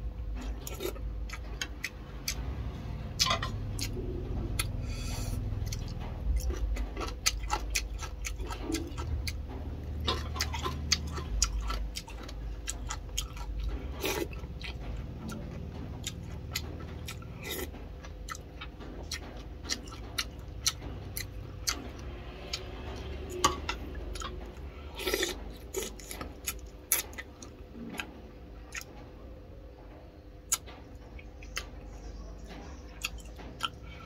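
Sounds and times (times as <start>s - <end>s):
steady low hum: 0.0s - 34.0s
person chewing food: 0.4s - 29.0s, 32.8s - 34.0s.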